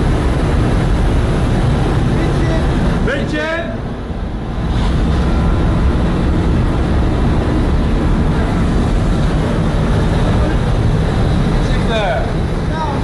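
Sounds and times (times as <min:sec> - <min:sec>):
faint steady whine: 0:00.0 - 0:13.0
ship machinery drone: 0:00.0 - 0:13.0.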